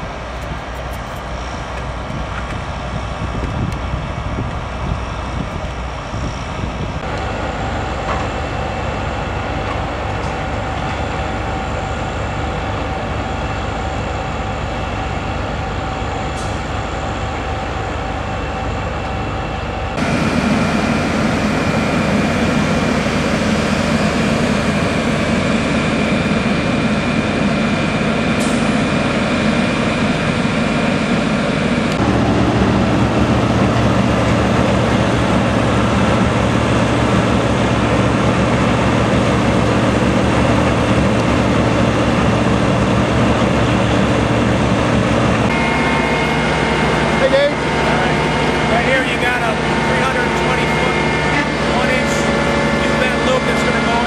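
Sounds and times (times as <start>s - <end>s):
heavy machinery drone: 0.0s - 54.0s
machinery whining tones: 0.0s - 54.0s.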